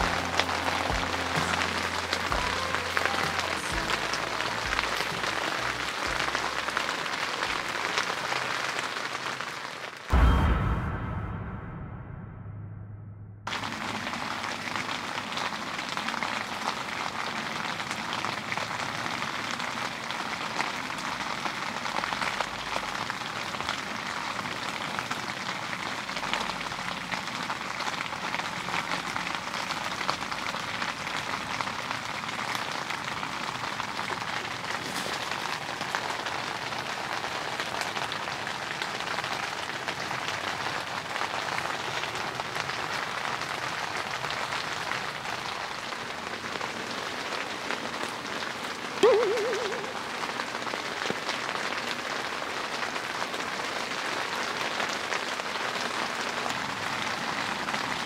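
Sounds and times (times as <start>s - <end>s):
heavy rain: 0.0s - 10.6s, 13.5s - 58.0s.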